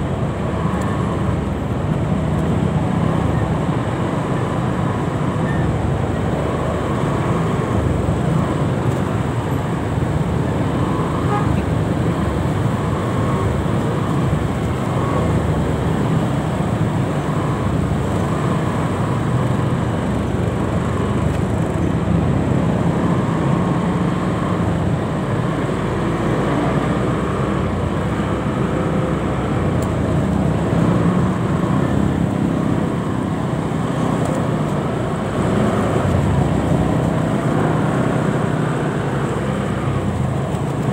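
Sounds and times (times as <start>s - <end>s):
traffic engines: 0.0s - 40.9s.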